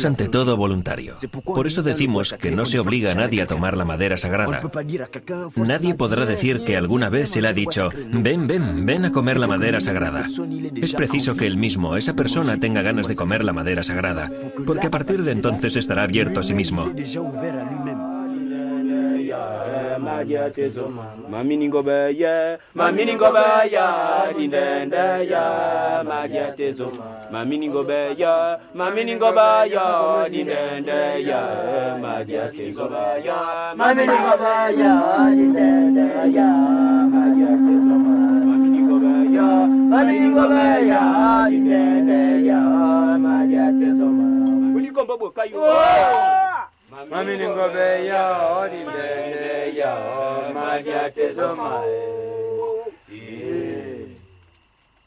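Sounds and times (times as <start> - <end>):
voices chanting: 5.6 - 54.2.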